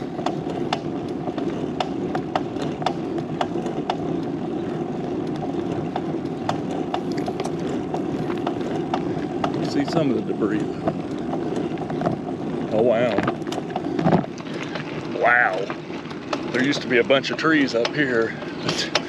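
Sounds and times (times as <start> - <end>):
bicycle tyres rumbling on asphalt: 0.0 - 19.0.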